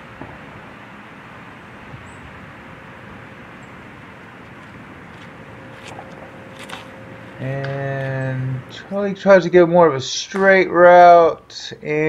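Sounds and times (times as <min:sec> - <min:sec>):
faint steady hum: 0:00.0 - 0:12.0
outdoor background hiss: 0:00.0 - 0:12.0.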